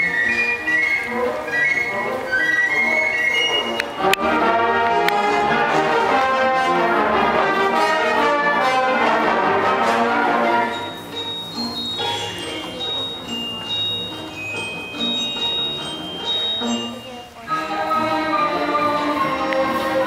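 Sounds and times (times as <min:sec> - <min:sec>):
orchestral music led by brass: 0:00.0 - 0:20.0.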